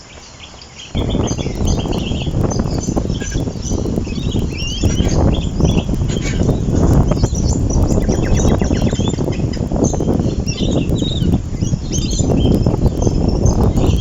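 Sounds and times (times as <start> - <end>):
small birds chirping: 0.0 - 14.0
wind rumbling: 0.9 - 14.0.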